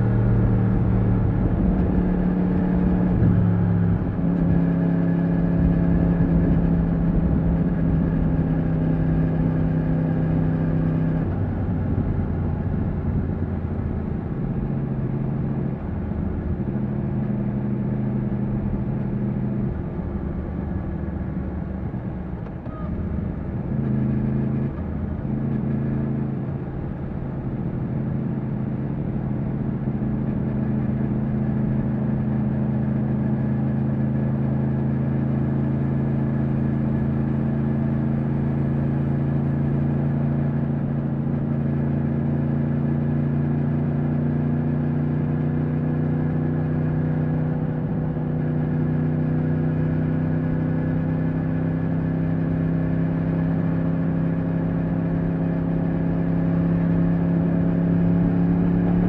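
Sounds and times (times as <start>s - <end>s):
motorcycle engine running: 11.4s - 59.0s.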